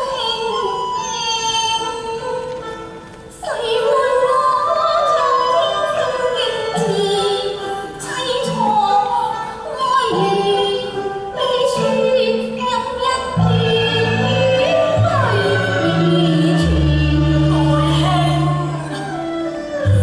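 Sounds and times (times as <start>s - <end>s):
instrumental accompaniment: 0.0s - 20.0s
opera singing high voice: 3.3s - 20.0s.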